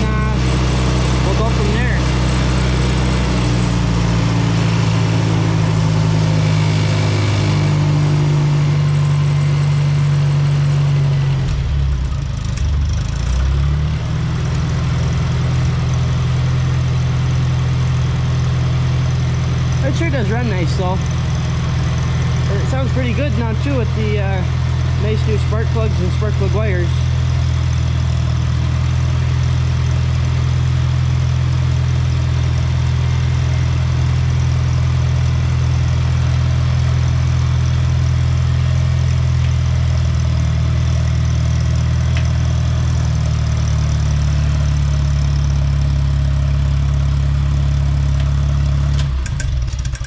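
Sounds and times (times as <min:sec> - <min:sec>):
tractor engine idling: 0:00.0 - 0:50.0.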